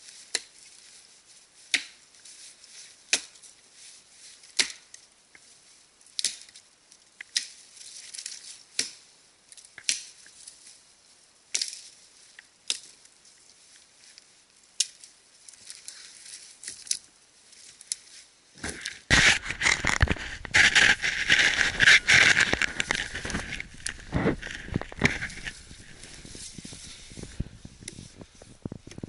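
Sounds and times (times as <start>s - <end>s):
rustling and scraping through branches: 0.0s - 29.0s.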